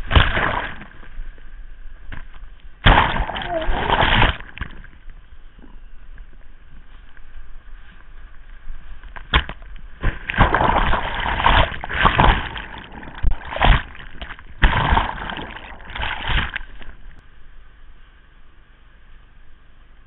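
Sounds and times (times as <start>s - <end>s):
water splashing and sloshing: 0.0s - 5.3s, 6.1s - 17.2s.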